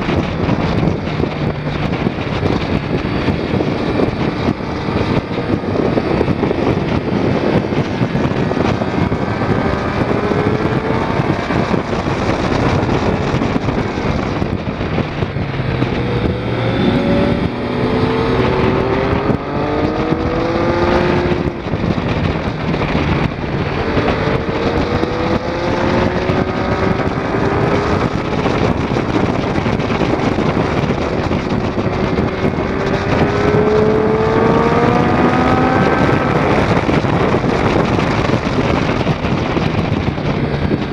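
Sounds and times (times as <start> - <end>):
motorcycle engine revving: 0.0 - 40.9
wind noise on microphone: 0.0 - 40.9.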